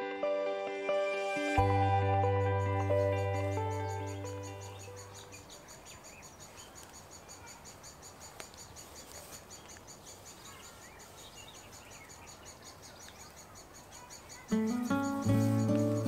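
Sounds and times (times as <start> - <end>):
woodpecker chicks chirping: 2.3 - 16.0.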